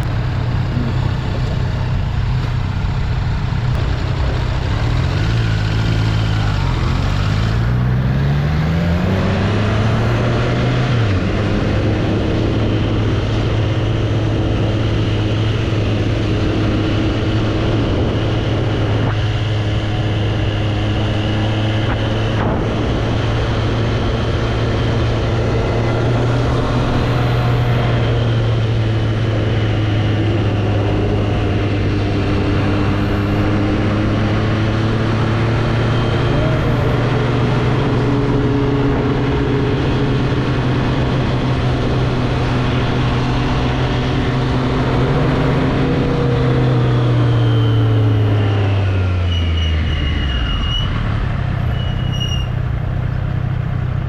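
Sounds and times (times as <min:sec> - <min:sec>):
motorcycle engine running: 0:00.0 - 0:48.8.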